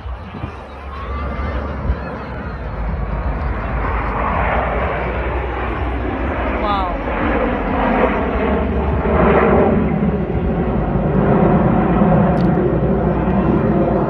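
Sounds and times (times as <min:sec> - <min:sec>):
aircraft engine noise: 0:00.0 - 0:14.0.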